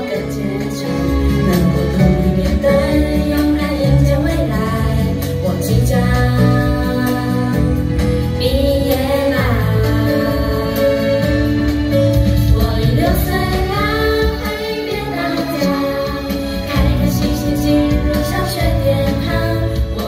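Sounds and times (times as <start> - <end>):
backing track: 0.0 - 20.0
woman singing: 0.0 - 20.0.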